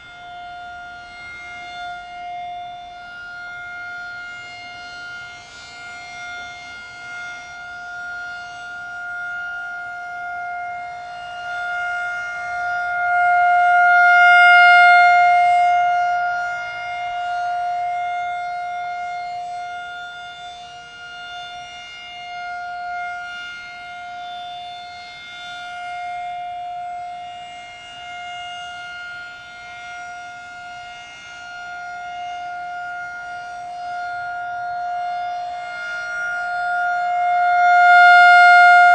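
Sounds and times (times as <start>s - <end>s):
electronic warning siren: 0.0s - 38.9s.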